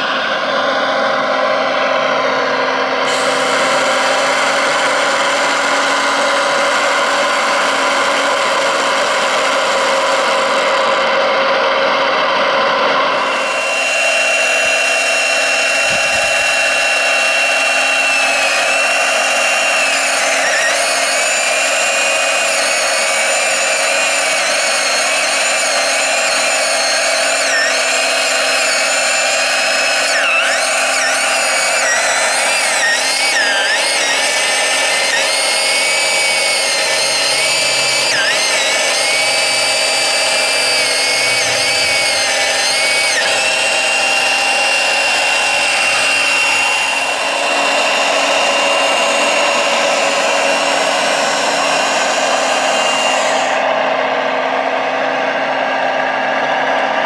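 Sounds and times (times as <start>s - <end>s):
electric chainsaw cutting log: 0.0s - 57.0s.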